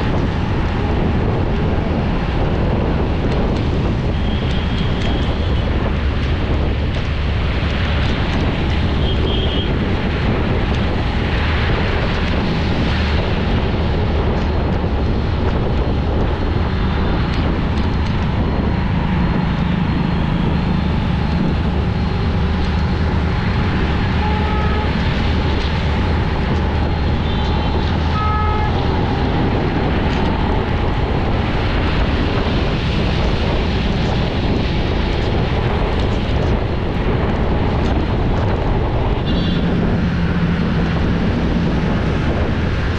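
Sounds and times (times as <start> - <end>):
vehicle road and wind noise: 0.0 - 42.9.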